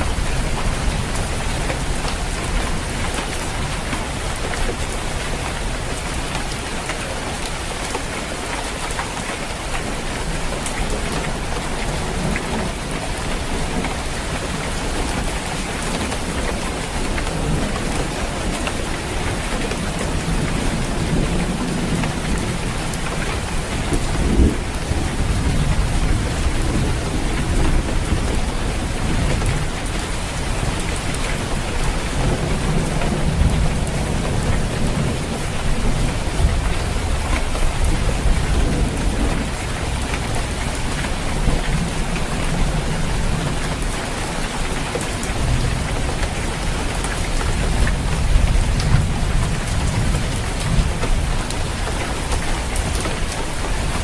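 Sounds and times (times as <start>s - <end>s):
heavy rain on a roof: 0.0s - 54.0s
low rumbles of thunder: 10.2s - 44.6s, 45.2s - 54.0s.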